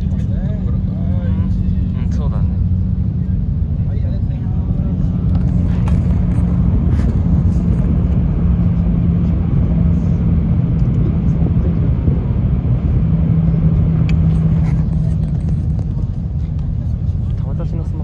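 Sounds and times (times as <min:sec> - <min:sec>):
steady low hum: 0:00.0 - 0:18.0
train cabin rumble: 0:00.0 - 0:18.0.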